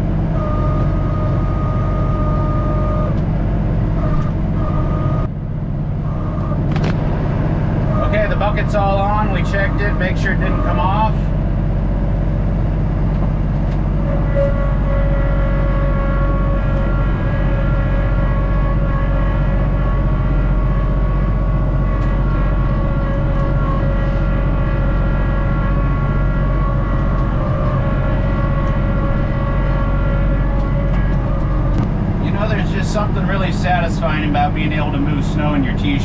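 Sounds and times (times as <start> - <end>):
steady whine: 0.0 - 36.0
tractor diesel engine running: 0.0 - 36.0.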